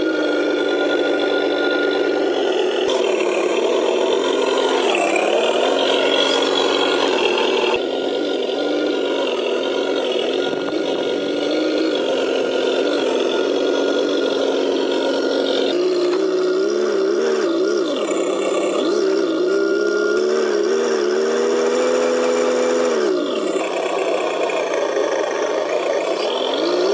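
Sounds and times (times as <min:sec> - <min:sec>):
simulated diesel engine sound: 0:00.0 - 0:26.9.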